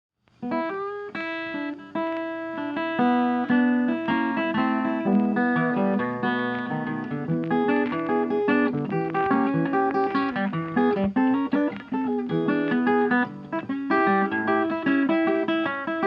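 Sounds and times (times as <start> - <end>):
plucked and strummed guitar: 0.3 - 16.0.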